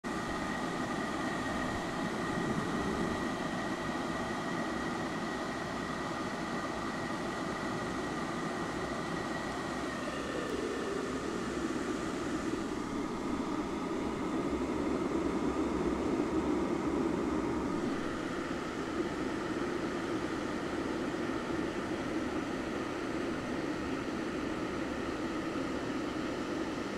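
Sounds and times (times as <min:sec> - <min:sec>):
water boiling in kettle: 0:00.1 - 0:26.9.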